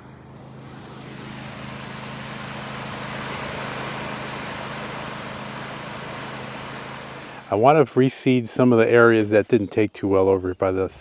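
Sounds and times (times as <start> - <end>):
riding mower engine running: 0.0 - 10.8.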